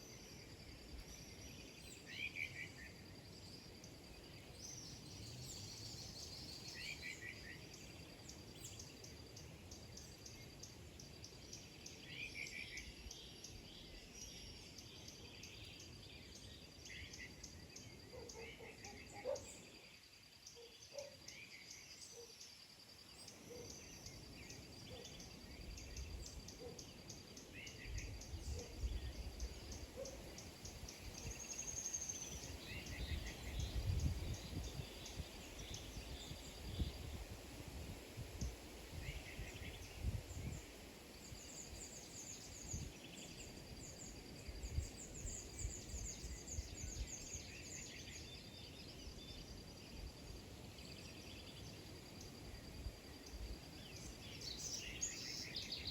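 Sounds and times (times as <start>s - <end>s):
small birds chirping: 0.0s - 37.5s, 38.4s - 55.9s.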